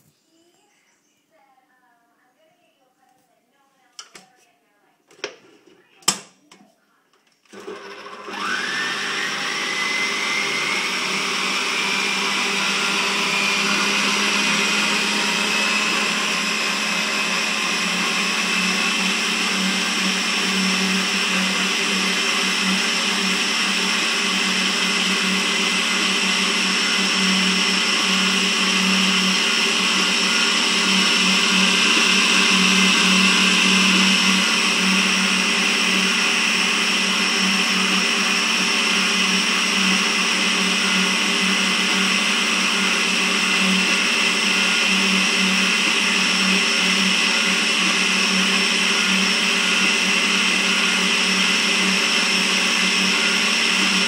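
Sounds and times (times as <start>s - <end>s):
stand mixer whining: 7.5s - 54.0s.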